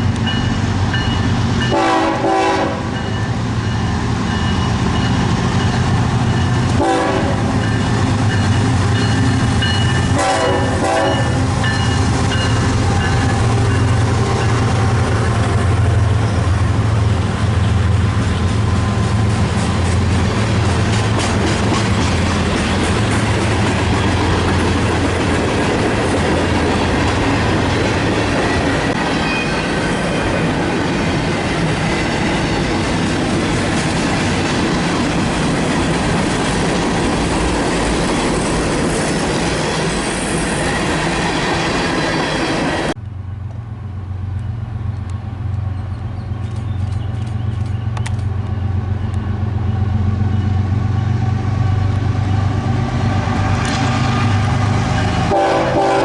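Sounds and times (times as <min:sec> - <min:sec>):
locomotive engine hum: 0:00.0 - 0:56.0
train passing on tracks: 0:00.0 - 0:56.0.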